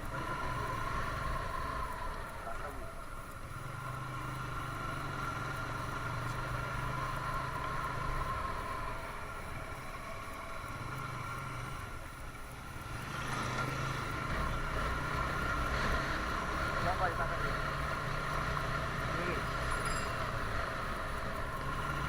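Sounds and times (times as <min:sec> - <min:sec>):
motorcycle engine running: 0:00.0 - 0:22.0
road traffic: 0:00.0 - 0:22.0.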